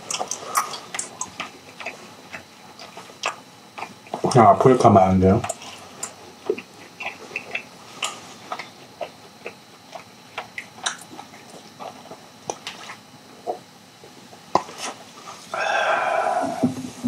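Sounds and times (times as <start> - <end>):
chewing mouth sounds: 0.0 - 4.4, 5.4 - 15.0.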